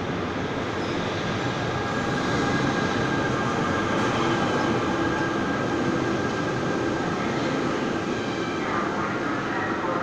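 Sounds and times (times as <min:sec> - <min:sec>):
train wheels rumbling on rail: 0:00.0 - 0:09.5.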